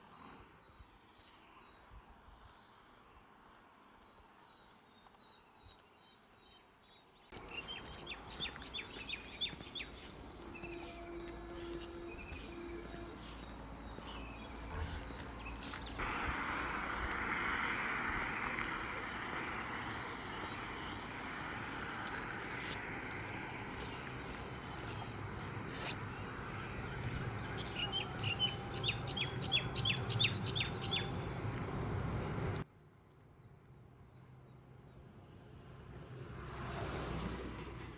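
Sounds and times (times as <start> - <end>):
songbird singing: 4.4 - 35.5.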